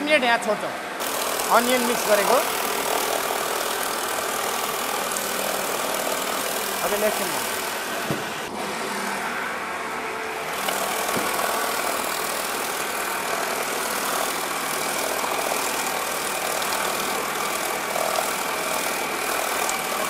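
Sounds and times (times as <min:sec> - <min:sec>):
bowl cutter machine whirring: 0:00.0 - 0:20.0.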